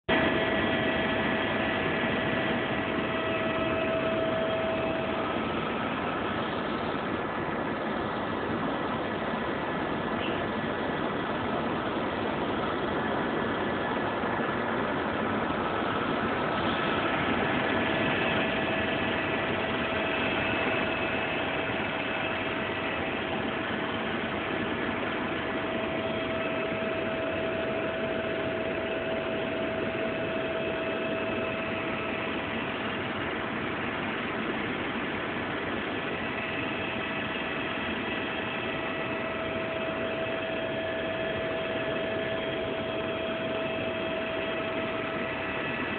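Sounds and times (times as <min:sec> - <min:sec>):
whining tones: 0:00.1 - 0:09.4, 0:10.1 - 0:45.9
helicopter engine and rotor drone: 0:00.1 - 0:45.9.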